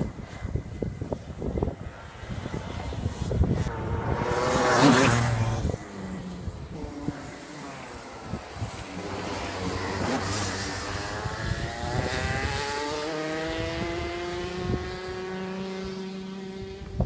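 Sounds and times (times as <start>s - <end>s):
kart engine accelerating: 1.9s - 17.0s.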